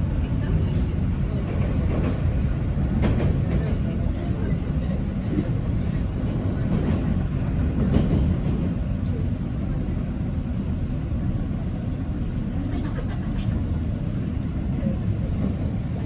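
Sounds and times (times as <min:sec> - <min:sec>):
subway train rumbling on track: 0:00.0 - 0:16.0.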